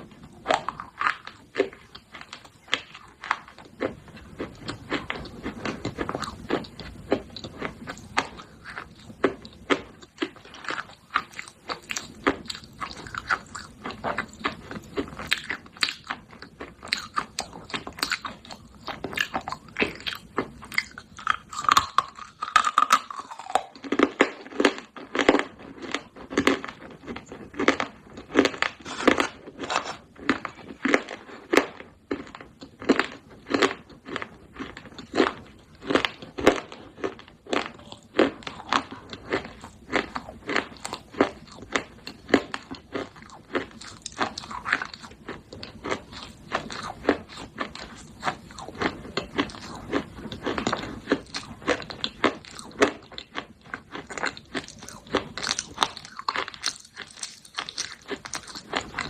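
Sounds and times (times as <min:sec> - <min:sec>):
chewing crunchy clay pieces: 0:00.0 - 0:59.0.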